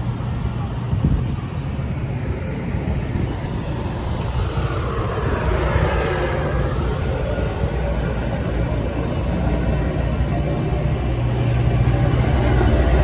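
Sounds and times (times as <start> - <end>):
train passing rumble: 0.0 - 13.0
train rushing noise: 0.0 - 13.0.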